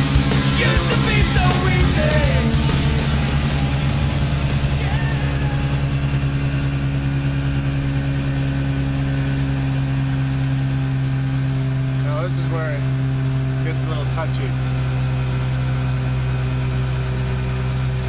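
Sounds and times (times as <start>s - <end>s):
motorboat engine droning: 0.0s - 18.0s.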